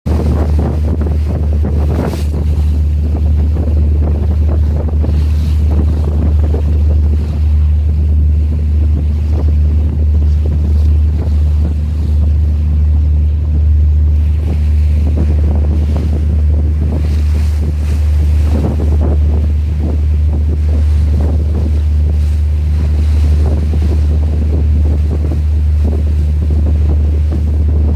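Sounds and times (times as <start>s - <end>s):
water washing along ship: 0.0s - 27.9s
wind buffeting microphone: 0.1s - 27.9s.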